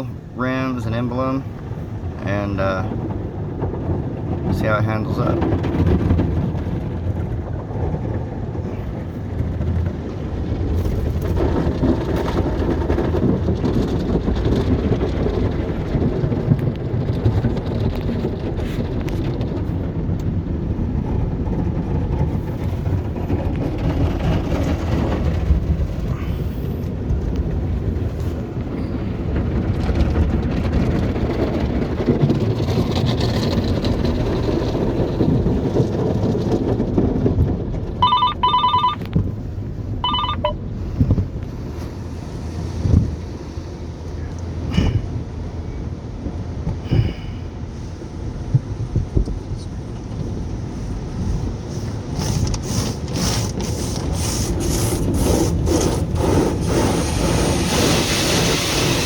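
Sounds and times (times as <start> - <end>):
car wash water jets and machinery: 0.0 - 59.0.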